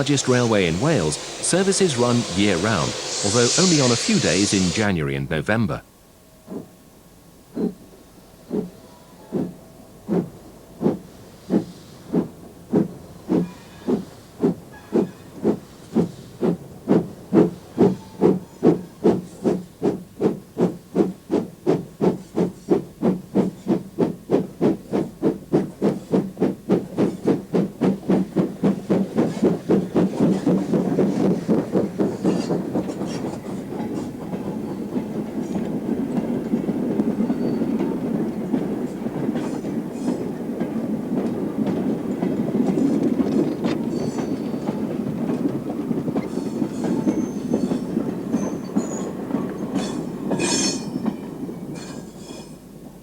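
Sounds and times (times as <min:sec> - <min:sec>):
steam locomotive exhaust chuffs: 0:00.0 - 0:05.3, 0:06.4 - 0:52.8
train rumbling past: 0:00.0 - 0:53.0.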